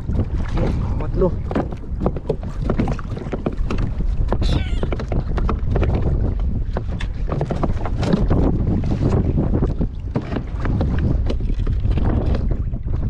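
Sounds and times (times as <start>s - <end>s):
water lapping at plastic kayak: 0.0s - 13.0s
wind rumbling on microphone: 0.0s - 13.0s
gear knocking against hull: 1.3s - 13.0s.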